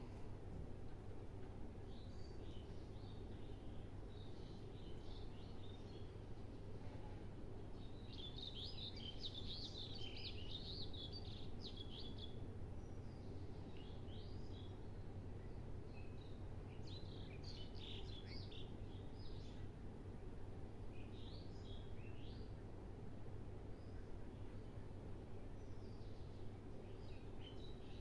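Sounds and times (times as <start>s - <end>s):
low background hum: 0.0s - 28.0s
small birds chirping: 1.8s - 7.1s, 7.7s - 19.9s, 20.8s - 22.6s, 23.5s - 28.0s.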